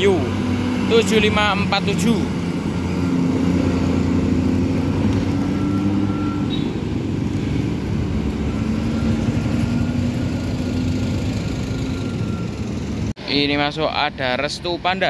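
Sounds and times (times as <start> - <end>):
motorcycle passing: 0.0 - 13.1
bus engine running: 0.0 - 13.2.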